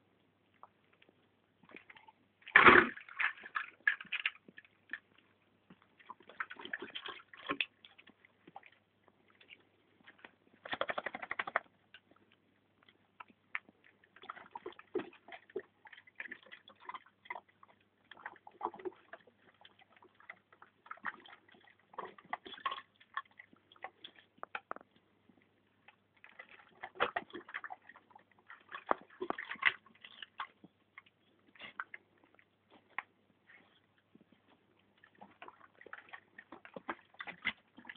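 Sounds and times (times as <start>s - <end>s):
water sloshing: 1.7s - 11.4s, 13.8s - 37.9s
dog lapping icy water: 1.7s - 12.2s, 13.2s - 37.9s.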